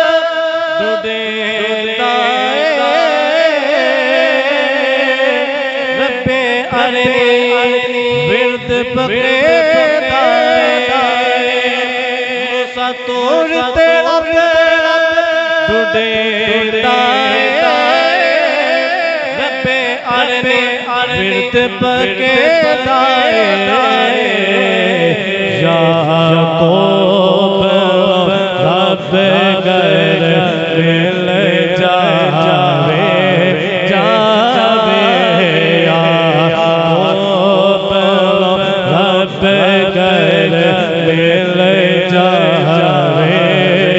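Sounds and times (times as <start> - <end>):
man chanting into a microphone: 0.0 - 43.9.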